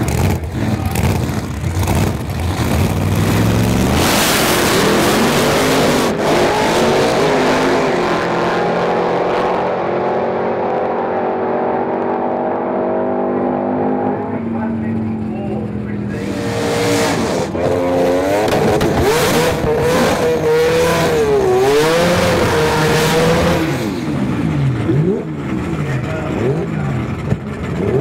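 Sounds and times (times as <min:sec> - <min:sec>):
drag car engines: 0:00.0 - 0:28.0.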